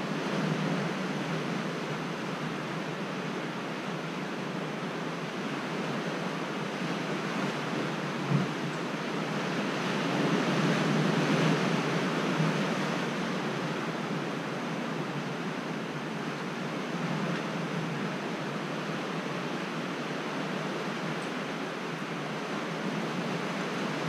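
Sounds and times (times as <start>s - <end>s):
ocean surf: 0.0s - 24.0s.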